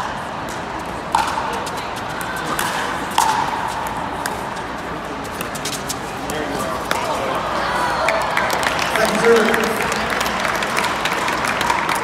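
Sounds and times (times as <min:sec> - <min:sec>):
murmur of the hall: 0:00.0 - 0:12.0.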